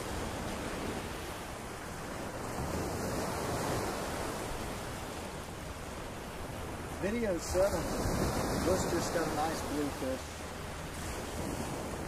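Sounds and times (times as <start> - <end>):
surf washing up a beach: 0.0 - 12.0
wind on microphone: 0.0 - 12.0.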